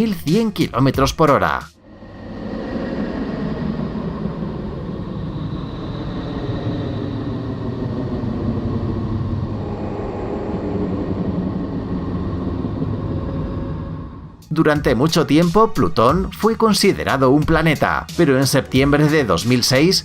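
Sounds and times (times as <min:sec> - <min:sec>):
deep rumbling noise: 0:00.0 - 0:18.1.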